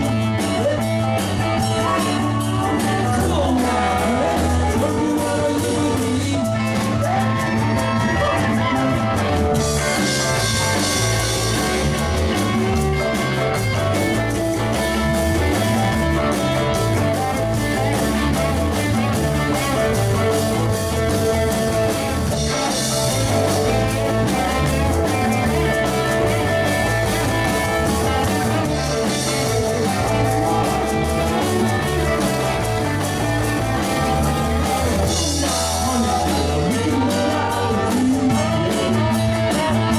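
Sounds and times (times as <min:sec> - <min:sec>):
electric guitar: 0:00.0 - 0:39.9
rock band playing: 0:00.0 - 0:39.9.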